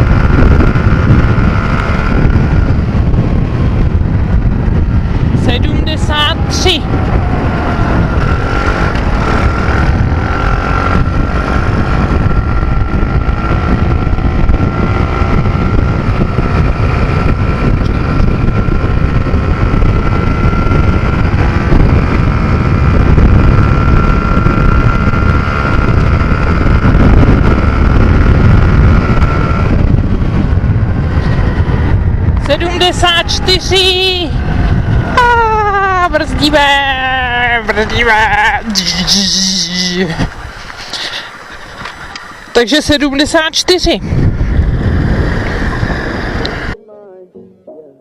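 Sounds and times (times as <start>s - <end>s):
motorbike engine at high revs: 0.0s - 46.8s
wind rush on microphone: 0.0s - 47.2s.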